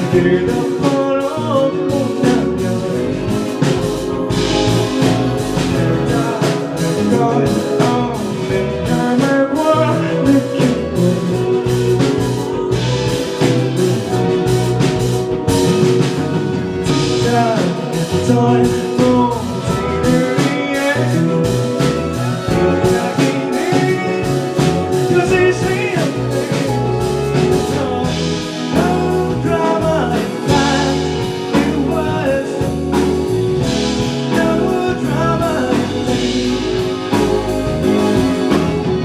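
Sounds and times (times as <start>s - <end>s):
live band playing pop-rock: 0.0s - 39.0s
steady drum beat: 0.0s - 39.0s.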